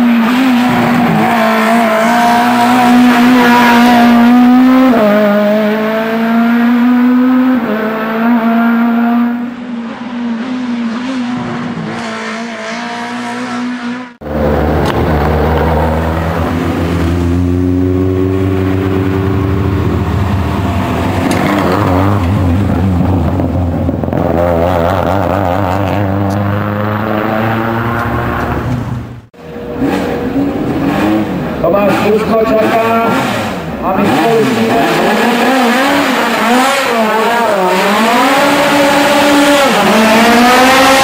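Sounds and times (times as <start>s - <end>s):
race car engine at full throttle: 0.0s - 41.0s.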